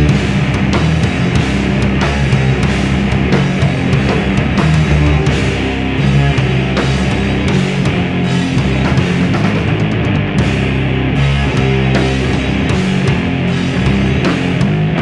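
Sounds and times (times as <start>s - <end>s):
bass guitar: 0.0s - 15.0s
distorted electric guitar: 0.0s - 15.0s
drum kit with cymbals: 0.0s - 15.0s.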